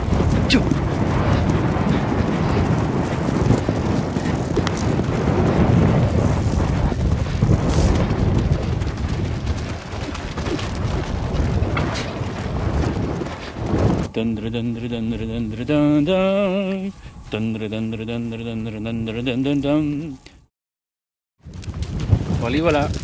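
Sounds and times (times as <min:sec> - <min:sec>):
wind buffeting microphone: 0:00.0 - 0:20.2, 0:21.4 - 0:23.0.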